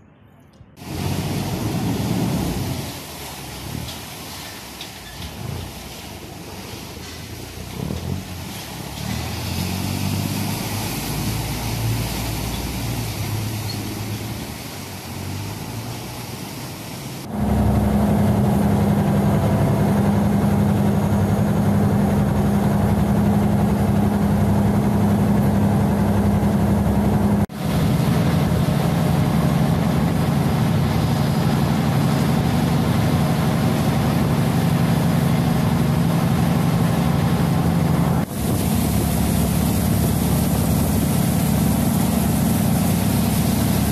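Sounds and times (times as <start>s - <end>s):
water noise: 0.6s - 43.9s
boat diesel engine droning: 0.8s - 43.9s.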